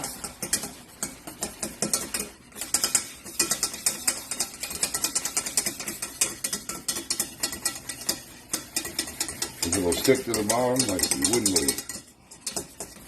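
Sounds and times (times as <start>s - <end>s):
spoon scraping a saucepan: 0.0s - 13.0s.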